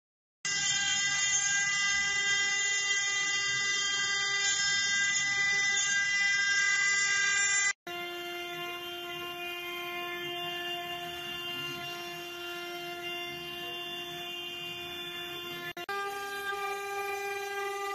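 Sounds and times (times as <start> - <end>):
machine spindle high whine: 0.5 - 17.9.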